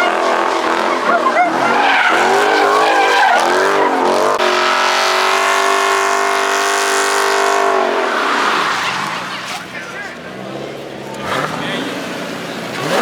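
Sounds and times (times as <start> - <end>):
tyres screeching: 0.0 - 6.4, 7.1 - 13.0
car engine revving hard: 0.0 - 13.0.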